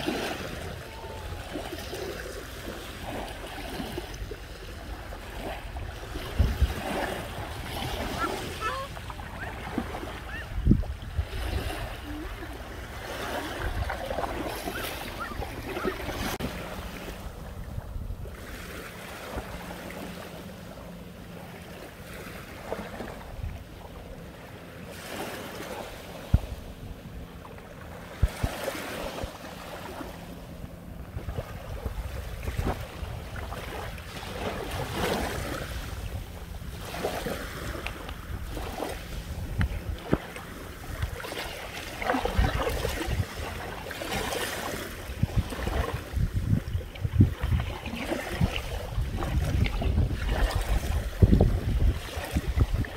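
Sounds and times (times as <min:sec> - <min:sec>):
wind rumbling on microphone: 0:00.0 - 0:20.2, 0:25.6 - 0:52.9.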